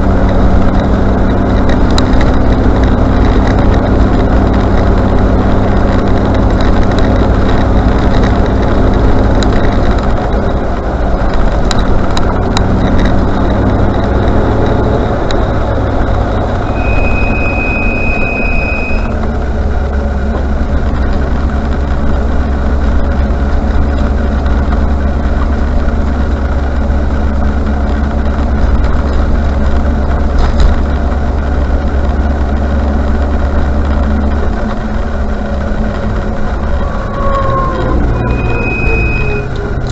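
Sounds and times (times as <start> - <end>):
brakes squealing: 0.0 - 39.9
car engine and road noise: 0.0 - 39.9.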